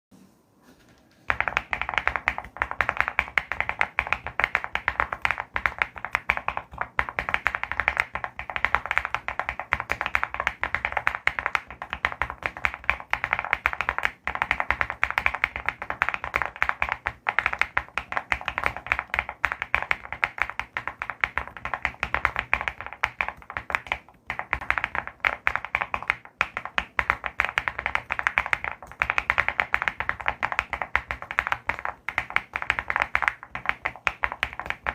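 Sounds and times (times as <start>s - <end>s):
mechanical keyboard typing: 1.3s - 34.9s.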